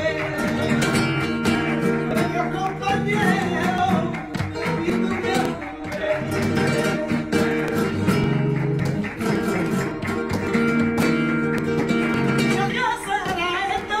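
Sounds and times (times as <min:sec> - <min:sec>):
flamenco guitars playing: 0:00.0 - 0:14.0.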